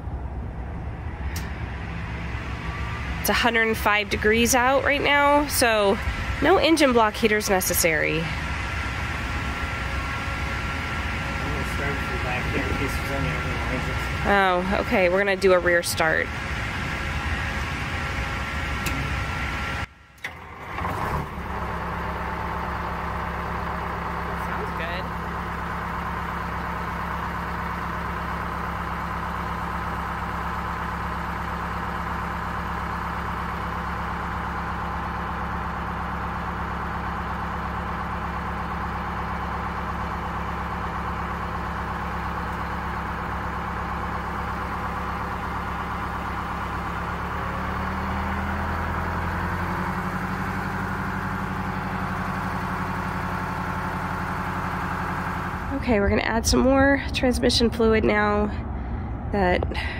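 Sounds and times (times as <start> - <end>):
diesel bus engine idling: 0.0 - 59.9.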